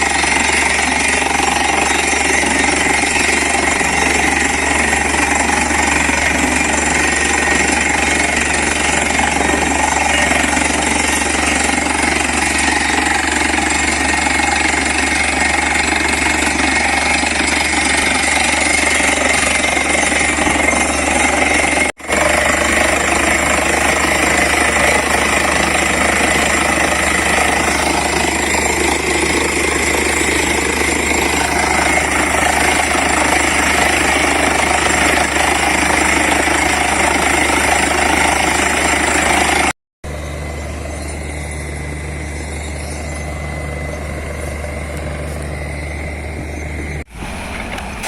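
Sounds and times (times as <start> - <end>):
drilling rig running loudly: 0.0 - 48.0
engine drone with low hum: 0.0 - 48.0.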